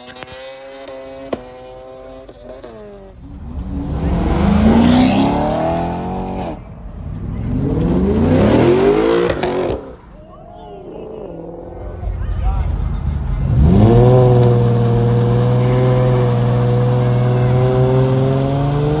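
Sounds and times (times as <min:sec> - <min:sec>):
car engine accelerating hard: 0:00.1 - 0:19.0.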